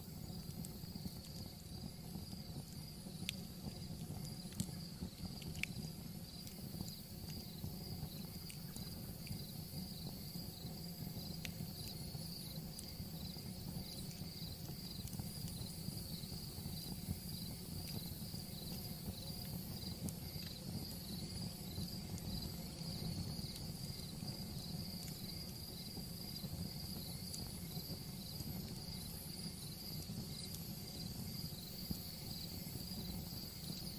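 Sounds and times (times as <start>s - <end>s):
crickets chirping: 0.0s - 33.9s
wood fire crackling: 0.0s - 33.9s.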